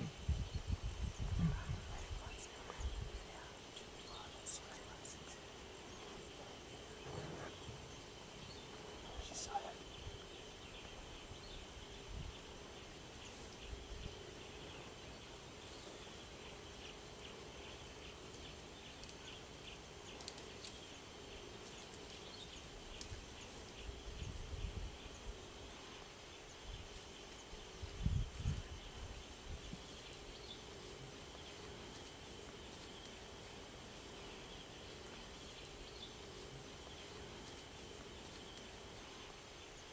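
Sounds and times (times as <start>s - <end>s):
insects and birds chirping: 0.0s - 39.9s.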